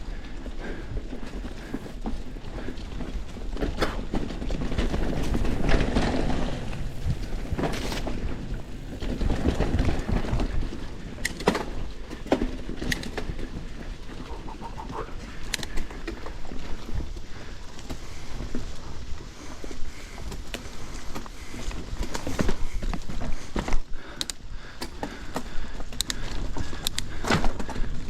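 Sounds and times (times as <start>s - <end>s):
bike tyres rumbling on dirt: 0.0s - 28.0s
wind: 0.0s - 28.0s
bike frame rattling and knocking: 0.6s - 24.2s.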